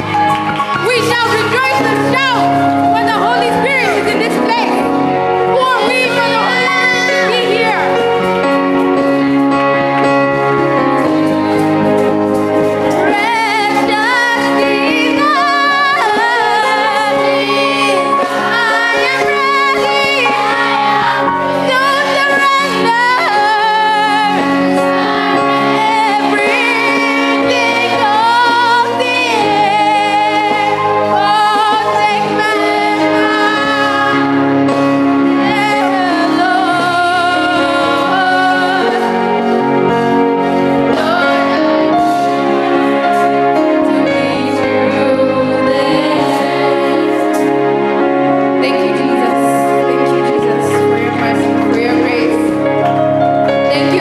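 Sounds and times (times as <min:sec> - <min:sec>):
held accompaniment chords: 0:00.0 - 0:54.0
person singing with vibrato: 0:01.0 - 0:54.0.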